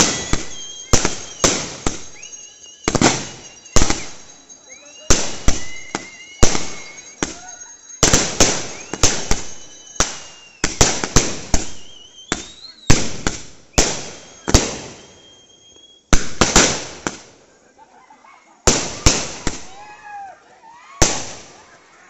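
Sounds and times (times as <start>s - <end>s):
firework bangs: 0.0s - 17.4s, 18.6s - 20.0s, 21.0s - 21.8s
firework whistling: 0.0s - 17.7s, 18.6s - 20.3s, 21.0s - 22.0s.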